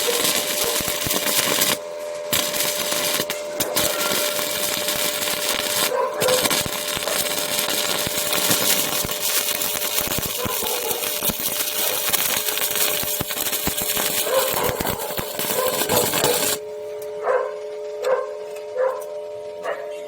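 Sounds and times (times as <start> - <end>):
arc welding crackling sizzle: 0.0 - 17.1
steady hum: 0.0 - 20.0.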